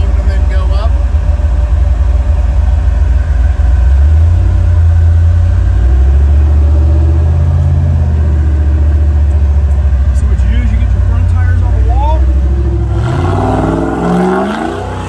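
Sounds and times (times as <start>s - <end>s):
engine running low and loud: 0.0s - 15.0s.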